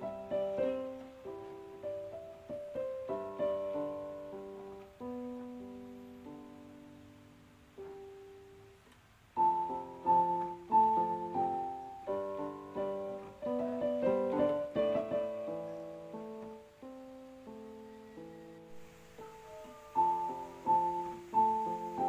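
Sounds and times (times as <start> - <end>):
piano music: 0.0 - 8.8, 9.4 - 22.0.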